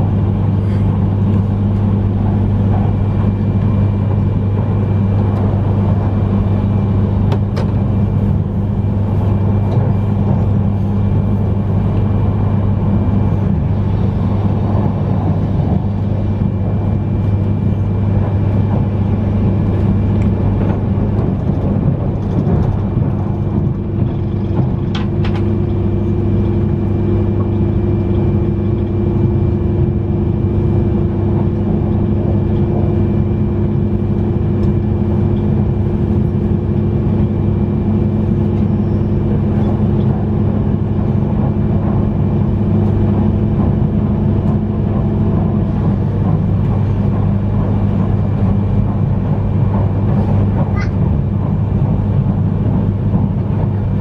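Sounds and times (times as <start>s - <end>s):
higher hum: 0.0s - 54.0s
low motor hum: 0.0s - 54.0s
train wheels rumbling on rail: 0.0s - 54.0s.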